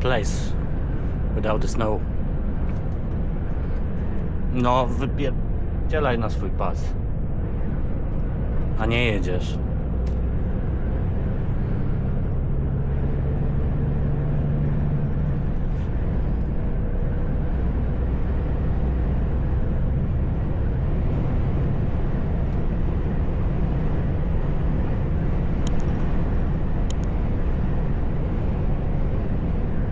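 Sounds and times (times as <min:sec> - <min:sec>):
truck engine and road rumble: 0:00.0 - 0:29.9.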